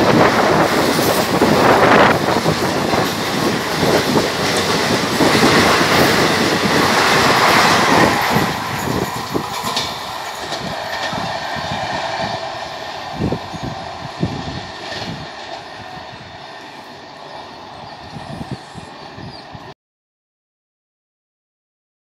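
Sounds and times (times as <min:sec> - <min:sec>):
train wheels rumbling and clattering: 0:00.0 - 0:19.7.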